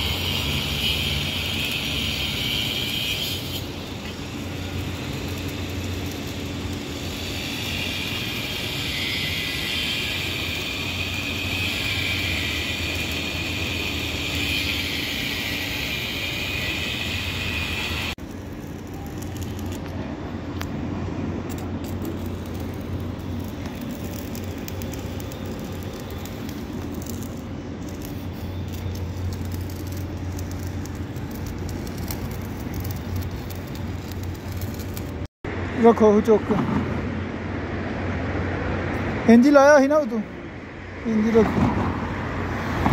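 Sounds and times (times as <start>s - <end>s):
welding arc crackling hiss: 0.0s - 20.8s, 21.4s - 35.3s.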